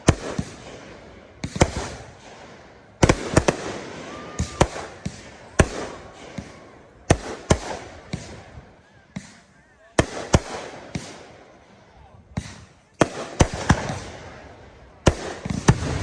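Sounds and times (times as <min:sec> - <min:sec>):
fireworks bursting with sharp bangs: 0:00.0 - 0:16.0.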